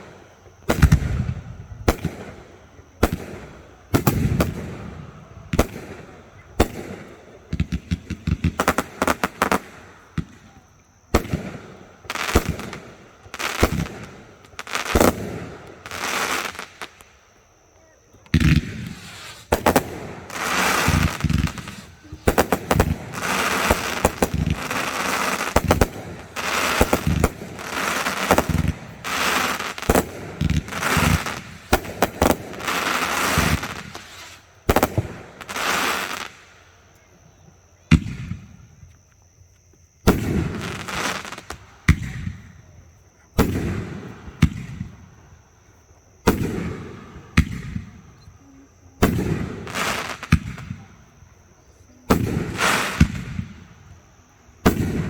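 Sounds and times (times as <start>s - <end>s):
fireworks bangs and crackle: 0.0s - 37.1s, 37.7s - 39.1s, 40.0s - 55.0s.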